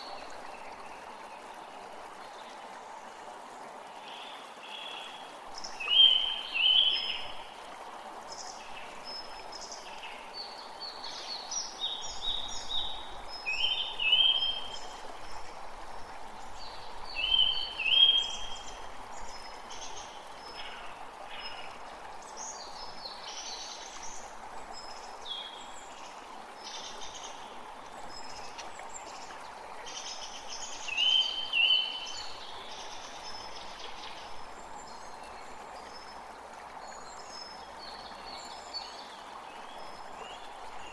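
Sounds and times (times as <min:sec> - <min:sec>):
forest creek rushing: 0:00.0 - 0:40.9.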